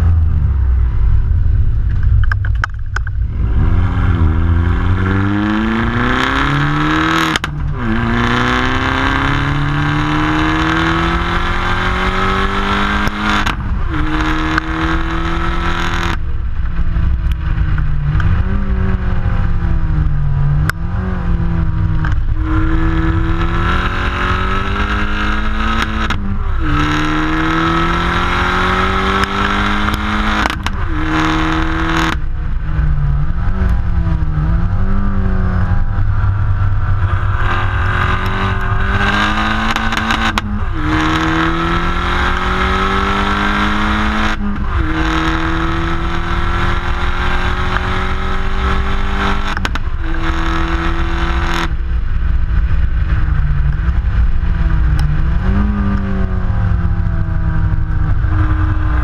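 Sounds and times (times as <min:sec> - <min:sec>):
car exhaust accelerating hard: 0:00.0 - 0:59.0.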